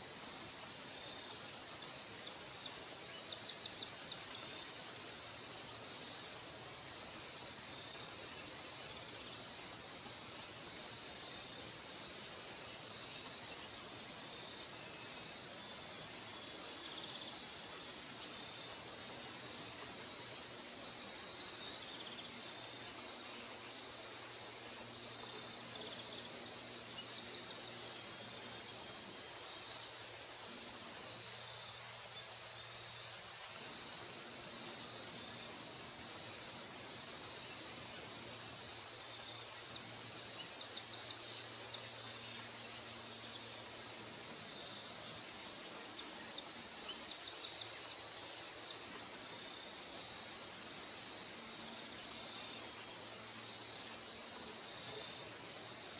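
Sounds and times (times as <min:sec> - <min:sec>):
insects chirping: 0:00.0 - 0:55.9
soft background hiss: 0:00.0 - 0:55.9.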